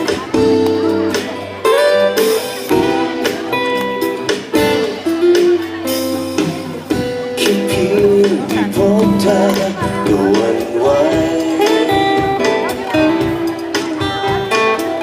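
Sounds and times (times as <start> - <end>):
pop ballad with strummed guitar: 0.0 - 15.0.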